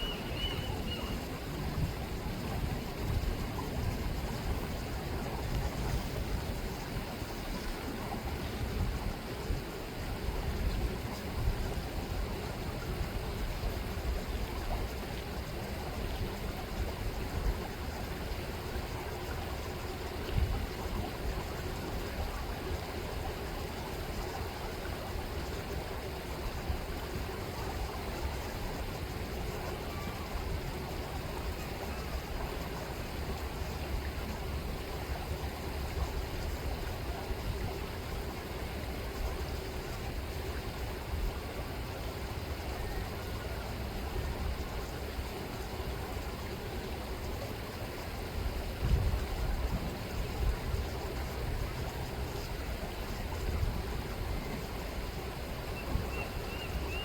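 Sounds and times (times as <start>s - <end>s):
river water rippling and flowing: 0.0s - 57.0s.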